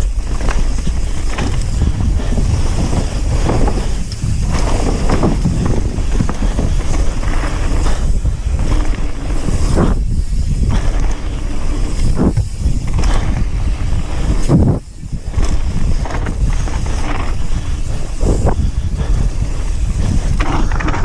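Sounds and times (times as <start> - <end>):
bike tyre and frame noise: 0.0 - 21.0
wind buffeting microphone: 0.0 - 21.0.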